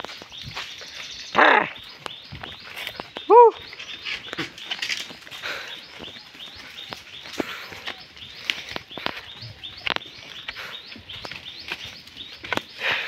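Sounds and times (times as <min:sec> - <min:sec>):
bird chirping: 0:00.0 - 0:13.0
footsteps on stony ground: 0:00.0 - 0:13.0.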